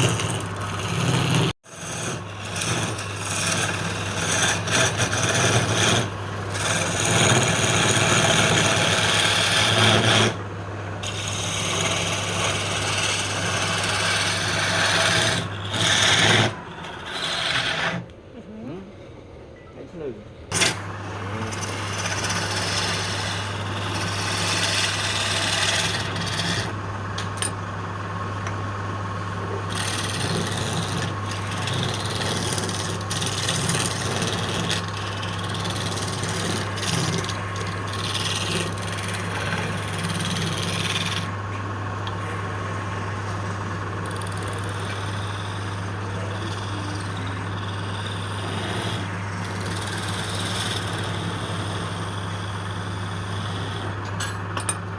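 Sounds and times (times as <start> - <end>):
scraping on spinning wood: 0.0 - 10.4, 11.0 - 18.1, 20.5 - 27.6, 29.3 - 41.6, 42.2 - 54.9
wood lathe humming: 0.0 - 18.2, 20.5 - 28.2, 28.8 - 54.8.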